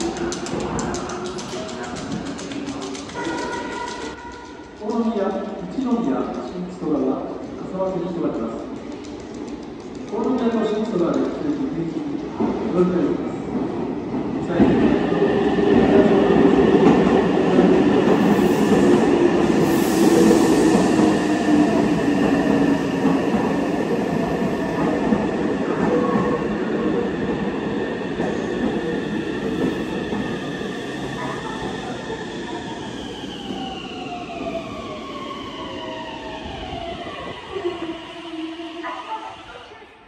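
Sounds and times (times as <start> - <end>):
train wheels rumbling on rail: 0.0 - 37.6.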